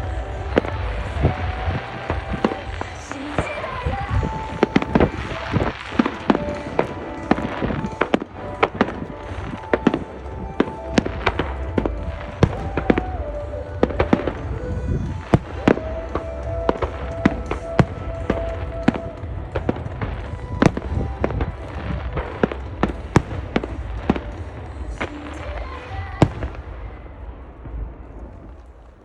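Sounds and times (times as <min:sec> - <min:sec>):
show music: 0:00.0 - 0:28.8
fireworks bangs: 0:00.0 - 0:29.0
low rumble: 0:00.0 - 0:29.0.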